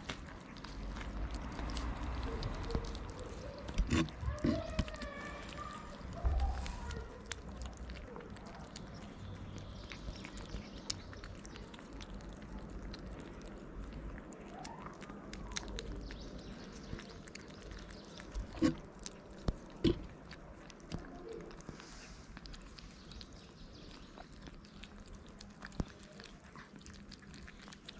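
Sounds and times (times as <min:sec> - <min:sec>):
kittens chewing wet food: 0:00.0 - 0:27.9.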